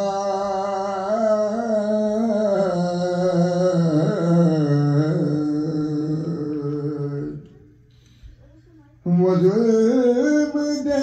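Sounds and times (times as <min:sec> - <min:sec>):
man chanting: 0:00.0 - 0:07.6, 0:09.1 - 0:11.0.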